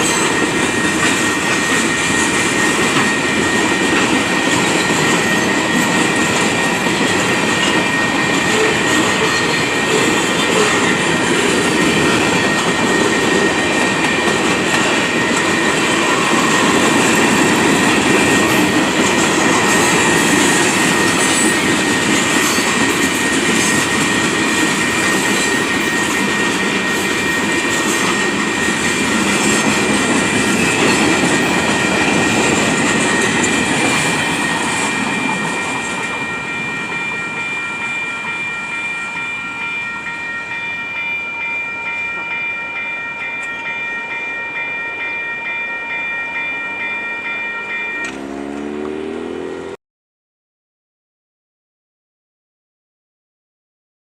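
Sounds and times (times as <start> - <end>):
high ringing tone: 0.0 - 23.9, 24.8 - 49.8
freight train wheels rumbling: 0.0 - 49.8.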